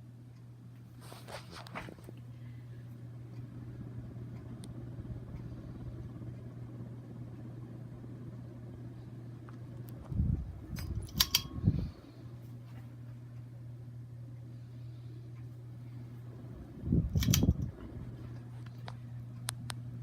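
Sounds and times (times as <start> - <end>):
ceiling fan humming: 0.0 - 20.0.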